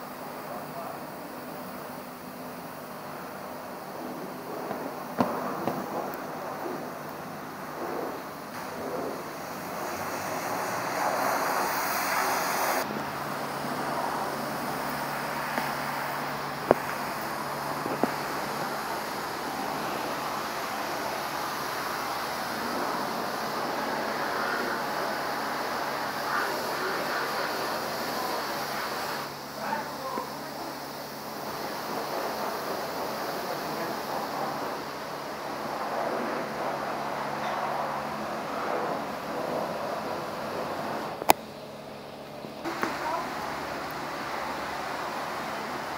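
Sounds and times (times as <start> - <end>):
steady low hum: 0.0 - 45.9
pressure washer spraying hiss: 1.3 - 41.2, 42.6 - 45.9.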